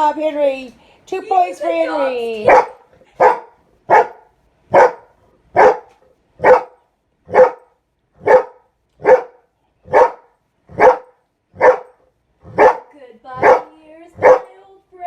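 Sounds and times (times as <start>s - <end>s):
dog barking: 2.4s - 14.6s.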